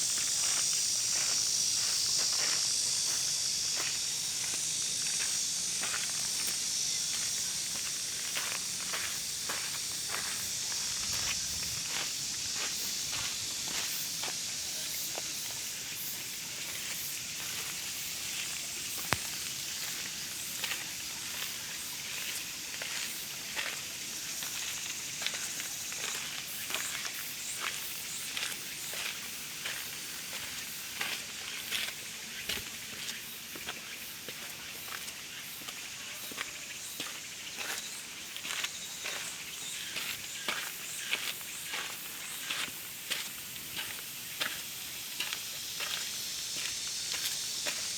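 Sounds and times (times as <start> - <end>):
outdoor background hiss: 0.0 - 47.9
footsteps scuffing on path: 0.1 - 15.6, 16.6 - 47.9.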